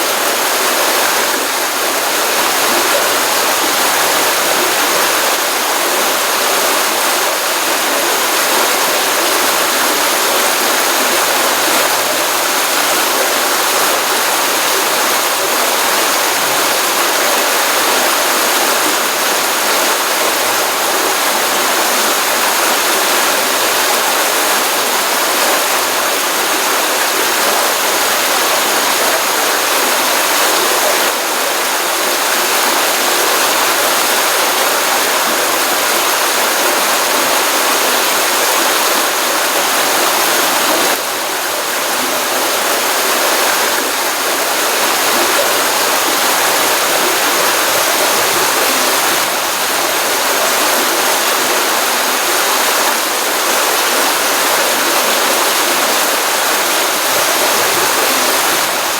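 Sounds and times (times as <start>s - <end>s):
stream water running: 0.0s - 58.9s.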